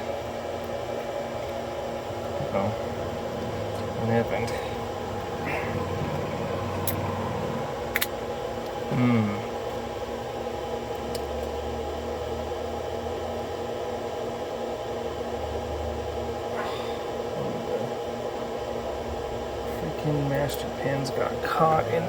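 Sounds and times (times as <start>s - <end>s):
steady room hum: 0.0s - 22.0s.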